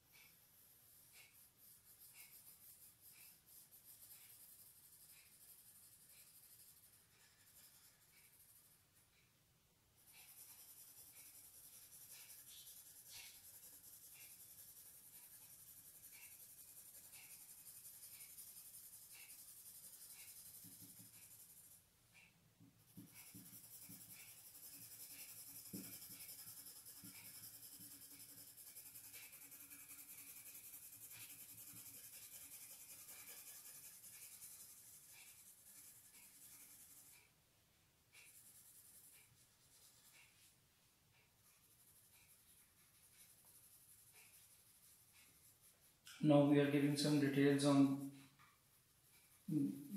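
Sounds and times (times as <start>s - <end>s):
crayon scratching on paper: 0.0s - 9.1s, 10.0s - 37.3s, 38.1s - 40.6s, 41.4s - 49.9s
faint steady hiss: 0.0s - 49.9s.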